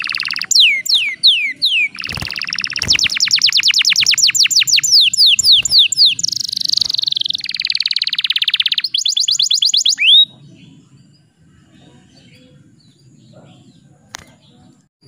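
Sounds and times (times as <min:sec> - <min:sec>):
canary singing: 0:00.0 - 0:14.6.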